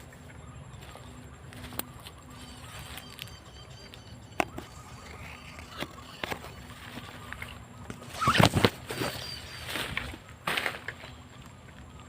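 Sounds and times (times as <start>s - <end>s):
faint high bird chirps: 0.0s - 10.2s.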